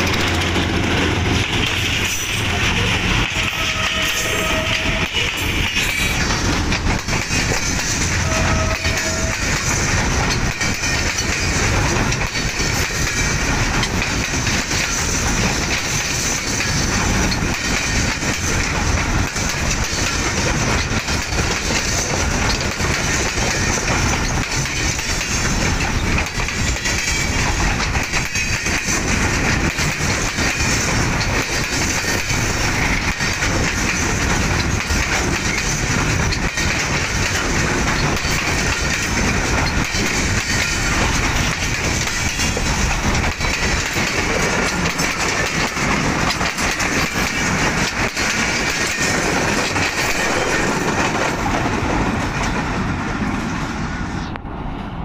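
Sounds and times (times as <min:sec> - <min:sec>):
train wheels clattering over rails: 0:00.0 - 0:53.6.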